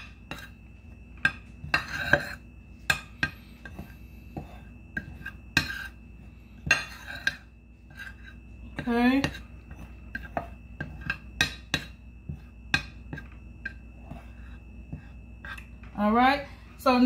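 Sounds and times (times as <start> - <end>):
spoon scraping through flour: 0.0 - 16.0.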